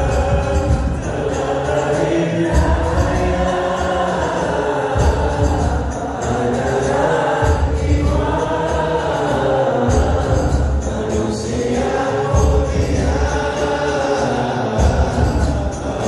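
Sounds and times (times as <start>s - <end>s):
man singing through microphone: 0.0s - 16.0s
music backing with heavy bass: 0.0s - 16.0s.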